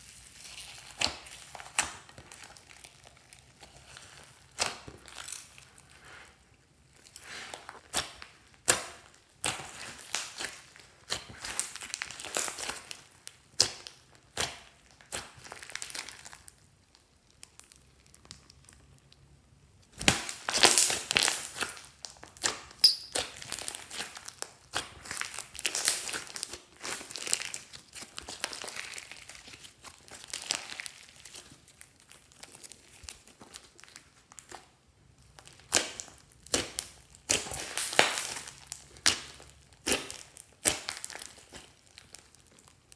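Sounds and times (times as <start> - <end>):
hands squishing slime: 0.0 - 19.2, 19.8 - 42.9.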